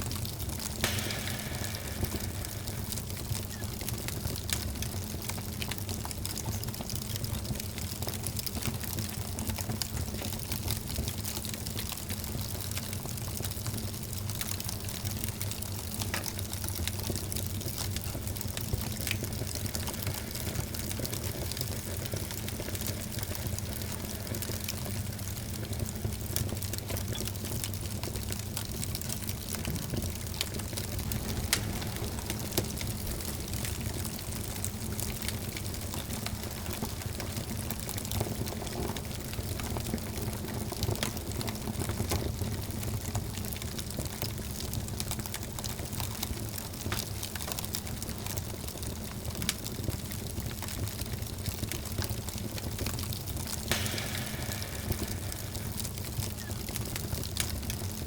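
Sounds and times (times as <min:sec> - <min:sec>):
fire crackling and popping: 0:00.0 - 0:58.0
fire flames hissing and rumbling: 0:00.0 - 0:58.0.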